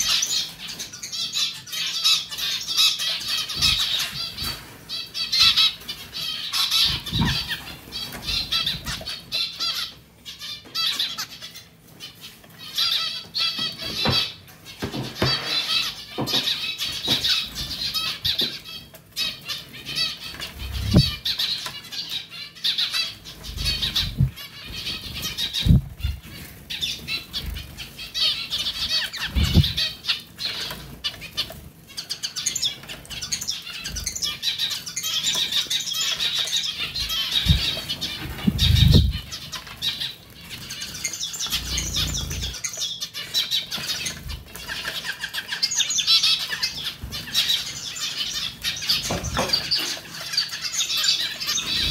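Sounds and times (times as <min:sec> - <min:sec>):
bird chirping: 0:00.0 - 0:51.9
wings fluttering and splashing: 0:03.0 - 0:09.8, 0:10.7 - 0:22.2, 0:22.9 - 0:51.9.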